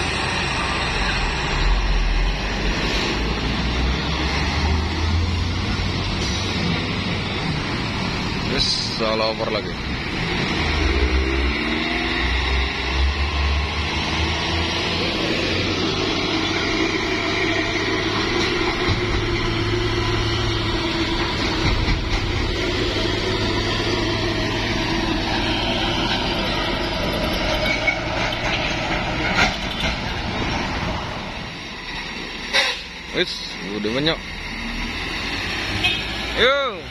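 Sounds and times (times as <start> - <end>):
truck diesel engines labouring: 0.0 - 36.9.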